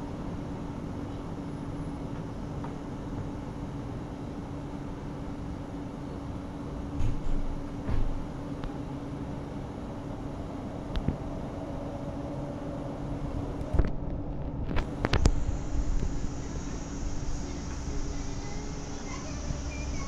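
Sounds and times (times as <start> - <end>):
city road traffic: 0.0 - 20.0.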